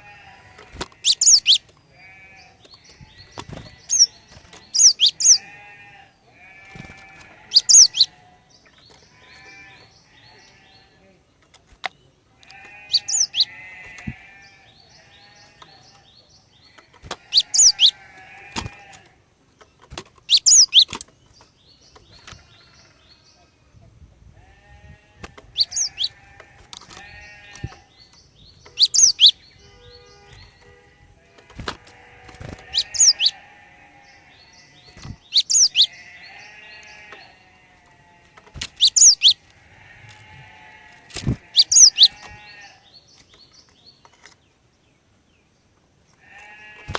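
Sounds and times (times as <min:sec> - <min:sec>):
bird calling with buzzy chatter: 0:00.0 - 0:10.9, 0:12.4 - 0:23.4, 0:24.4 - 0:44.4.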